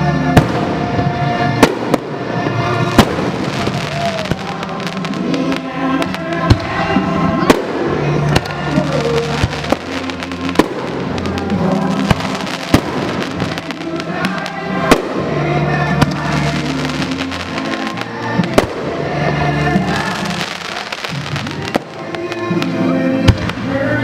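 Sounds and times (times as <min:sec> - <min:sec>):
music: 0:00.0 - 0:24.0
fireworks bangs: 0:00.2 - 0:24.0.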